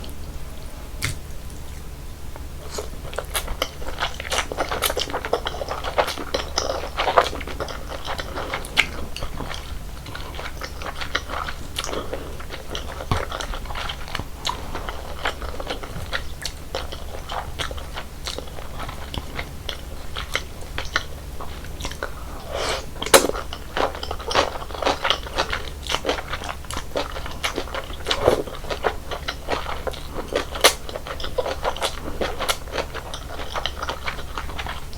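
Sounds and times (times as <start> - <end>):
steady low hum: 0.0 - 34.9
chewing and crunching noodles: 1.0 - 34.9.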